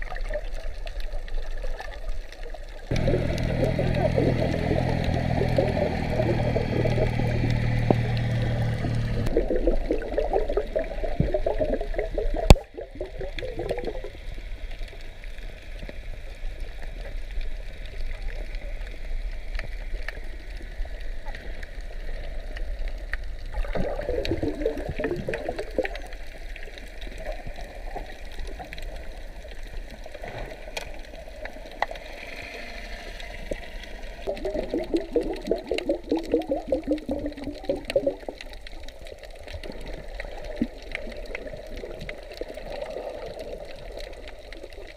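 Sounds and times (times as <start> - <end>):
water gurgling and sloshing: 0.0 - 44.9.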